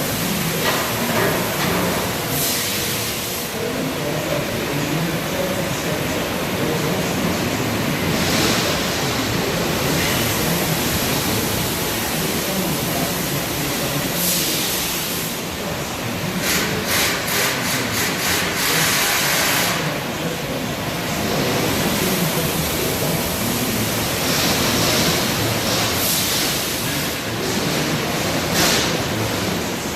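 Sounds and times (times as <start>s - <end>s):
industrial machinery humming: 0.0s - 29.9s.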